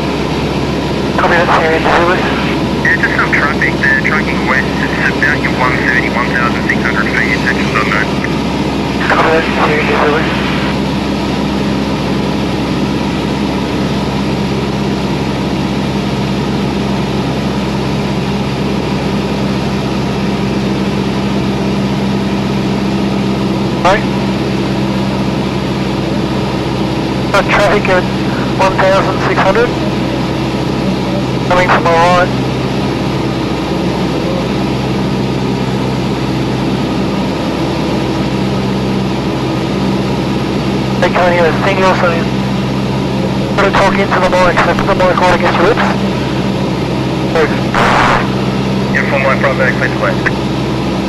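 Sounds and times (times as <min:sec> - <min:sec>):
airplane engine and propeller droning: 0:00.0 - 0:51.0.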